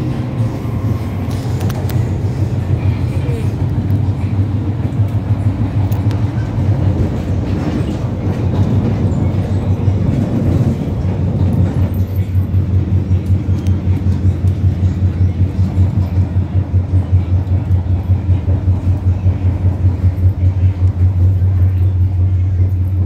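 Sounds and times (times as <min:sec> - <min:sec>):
electric train running hum: 0:00.0 - 0:23.0
rail noise from wheels: 0:00.0 - 0:23.0.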